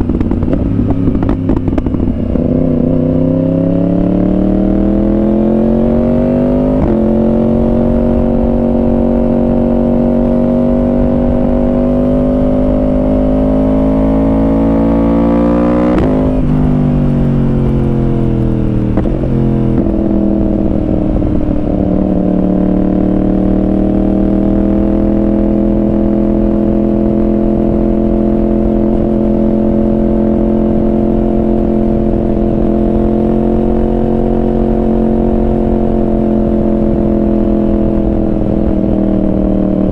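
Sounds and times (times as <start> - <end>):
sport bike engine revving: 0.0 - 39.0.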